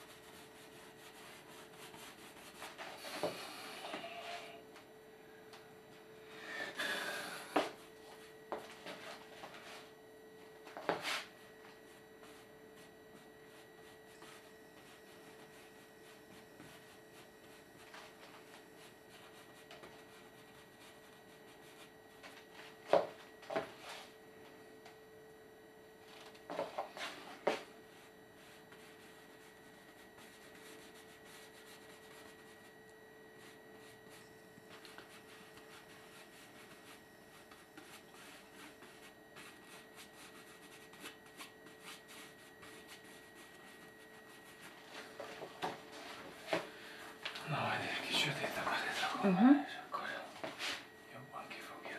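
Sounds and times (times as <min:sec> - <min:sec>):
faint steady whine: 0:00.0 - 0:51.9.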